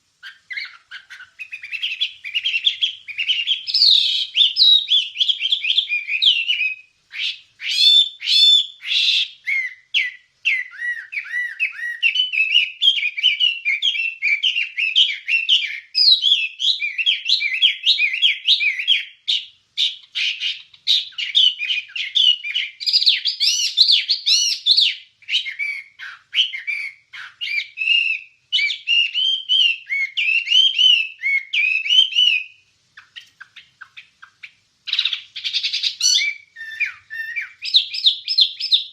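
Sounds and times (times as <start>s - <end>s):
bird singing chattering song: 0.0s - 38.9s.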